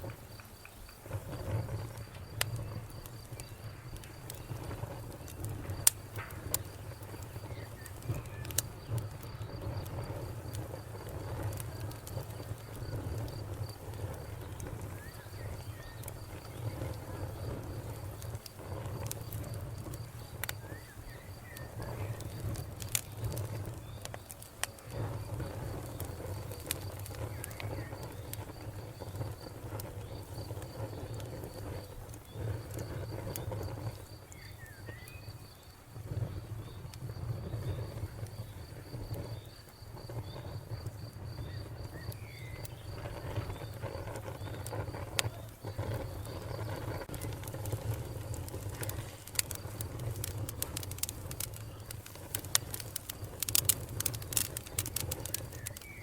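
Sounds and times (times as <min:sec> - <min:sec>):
cricket chirping: 0:00.0 - 0:56.0
wood fire crackling: 0:00.0 - 0:56.0.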